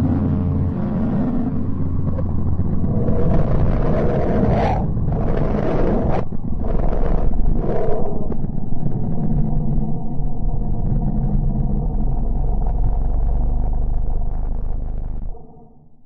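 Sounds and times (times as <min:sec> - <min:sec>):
deep steady rumble: 0:00.0 - 0:16.0.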